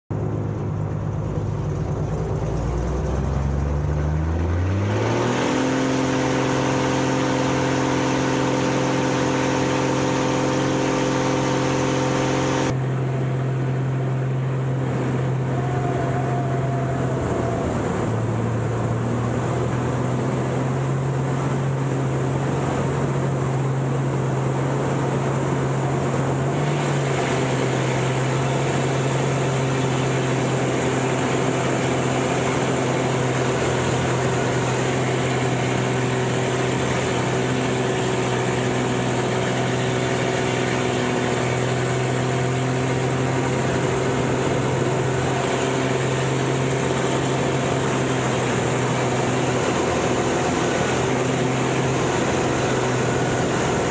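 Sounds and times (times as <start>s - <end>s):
propeller plane engine drone: 0.1s - 53.9s.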